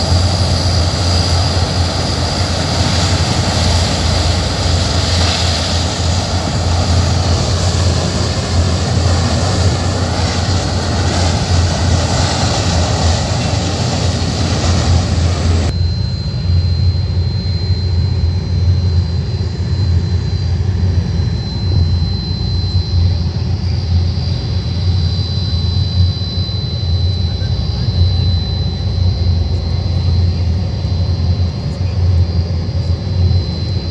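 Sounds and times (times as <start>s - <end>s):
thin high whine: 0.0s - 33.9s
turboprop engines droning: 0.0s - 33.9s.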